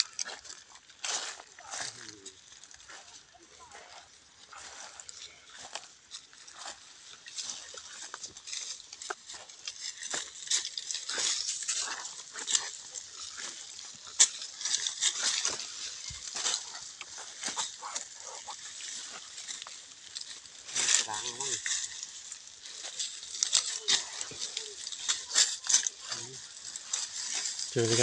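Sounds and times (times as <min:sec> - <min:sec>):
twigs snapping: 0:00.0 - 0:03.0, 0:04.5 - 0:28.0
footsteps crunching dry leaves: 0:00.0 - 0:28.0.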